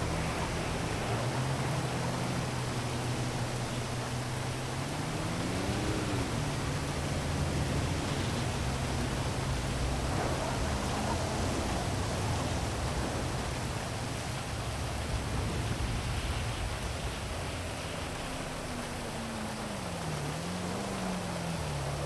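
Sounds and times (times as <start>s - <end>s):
city traffic hum: 0.0s - 22.0s
heavy rain hiss: 0.0s - 22.0s
vehicle engine: 0.0s - 22.0s.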